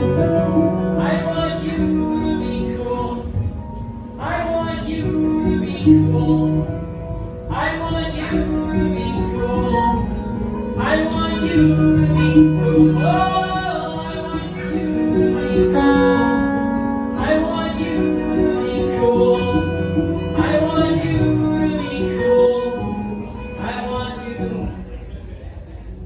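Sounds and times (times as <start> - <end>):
guitar chords ringing: 0.0 - 24.9.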